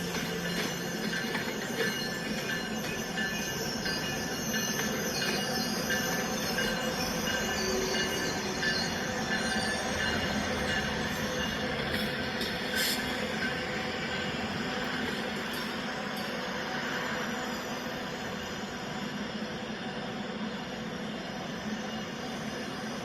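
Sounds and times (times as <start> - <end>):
train rumble: 0.0 - 23.0
train wheels squealing on rails: 0.0 - 23.0.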